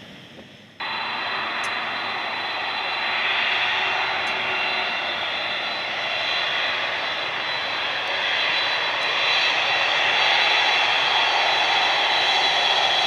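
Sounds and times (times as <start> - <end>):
jet engine roar: 0.0 - 13.0
high-pitched jet whine: 0.8 - 13.0.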